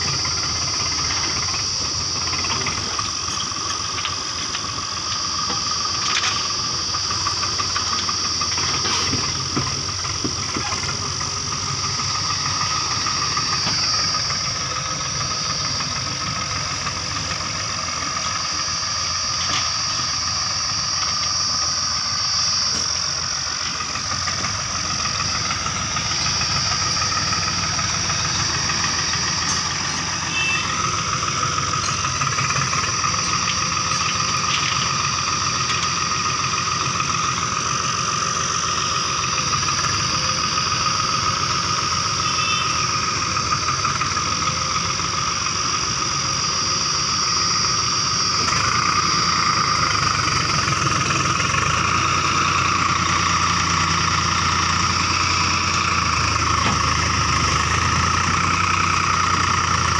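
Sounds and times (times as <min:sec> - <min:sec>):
high-pitched whine: 0:00.0 - 0:59.9
tractor diesel engine running: 0:00.0 - 0:59.9.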